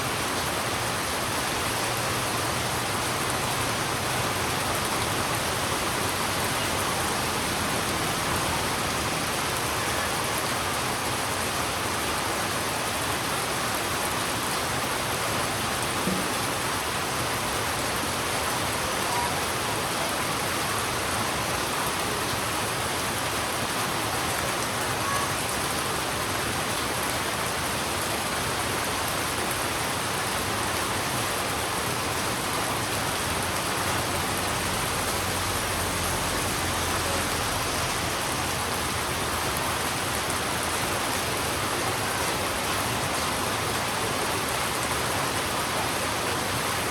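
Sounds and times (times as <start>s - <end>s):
heavy rain on a road: 0.0s - 46.9s.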